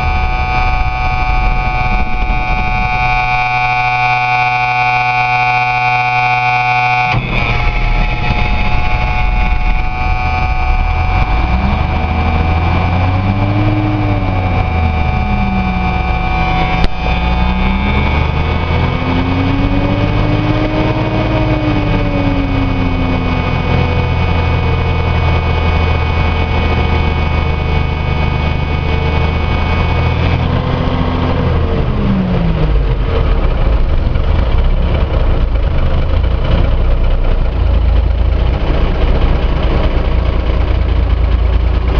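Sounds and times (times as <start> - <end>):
diesel truck engine running: 0.0 - 41.9
steady high whine: 0.0 - 41.9.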